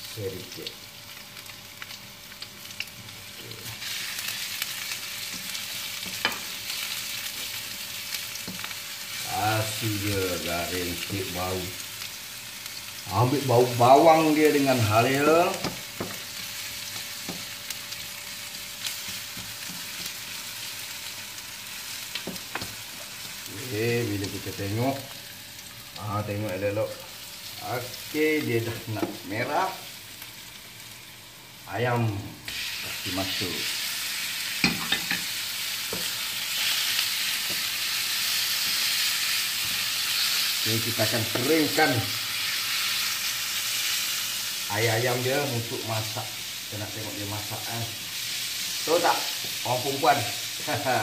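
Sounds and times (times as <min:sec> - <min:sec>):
food sizzling in hot oil: 0:00.0 - 0:51.0.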